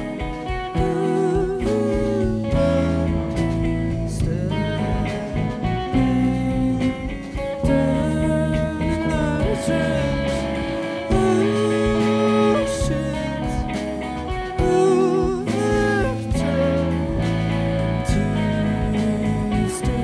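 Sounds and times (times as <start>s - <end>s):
person singing: 0.0s - 20.0s
strummed guitar: 0.0s - 20.0s.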